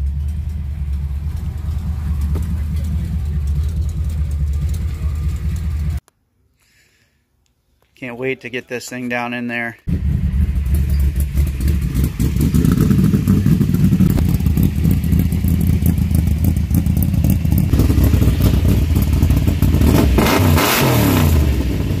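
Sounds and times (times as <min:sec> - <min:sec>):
car engine idling and revving: 0:00.0 - 0:06.0, 0:09.9 - 0:22.0.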